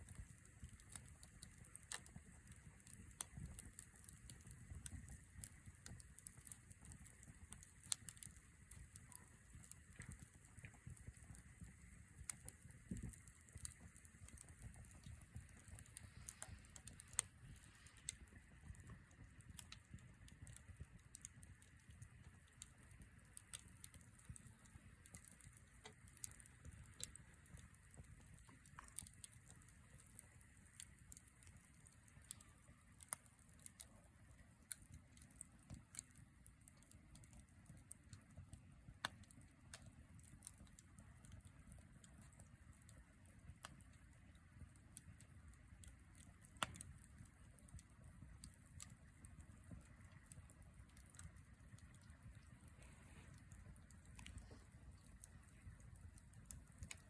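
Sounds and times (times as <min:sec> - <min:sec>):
campfire popping and snapping: 0:00.0 - 0:57.0
low rumble of flames: 0:00.0 - 0:57.0.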